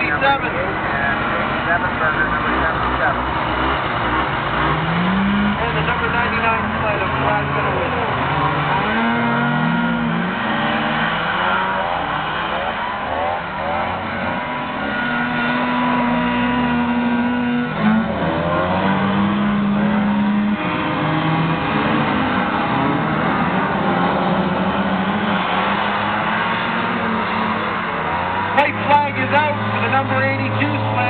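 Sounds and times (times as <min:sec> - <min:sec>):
snowmobile engines revving: 0:00.0 - 0:31.0.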